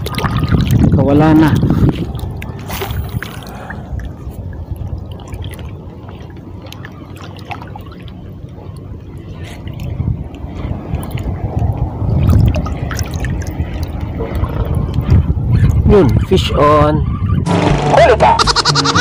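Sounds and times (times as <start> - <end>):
small drips and splashes: 0.0 - 15.8
sea water lapping: 0.0 - 17.4.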